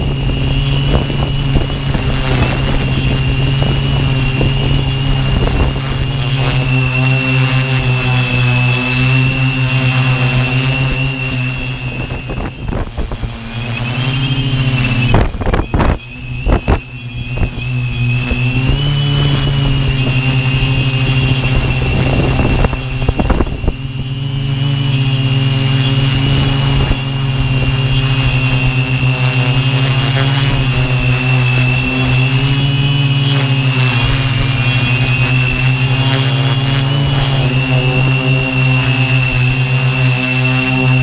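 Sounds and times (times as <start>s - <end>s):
drone motors and propellers humming: 0.0s - 41.0s
thin high whine: 0.0s - 41.0s
wind buffeting microphone: 0.0s - 41.0s.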